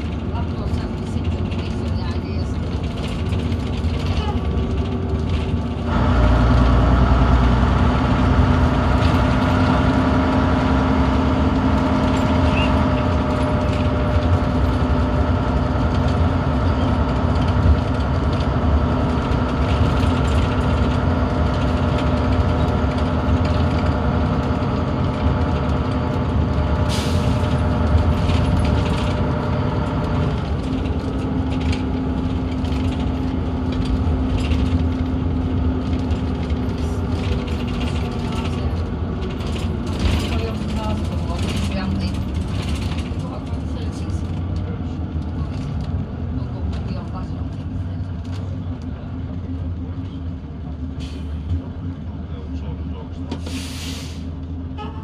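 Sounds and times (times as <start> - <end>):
bus engine under load: 0.0 - 55.0.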